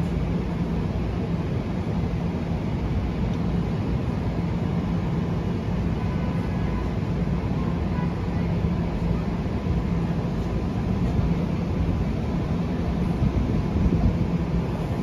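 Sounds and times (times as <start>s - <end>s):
electric train rumbling: 0.0s - 15.0s
low hum of train: 0.0s - 15.0s.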